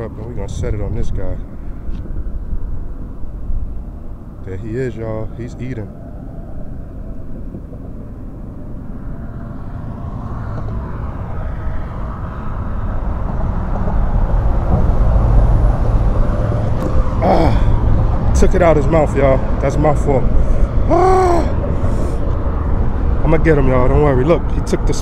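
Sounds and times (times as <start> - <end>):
traffic engine rumble: 0.0 - 25.0.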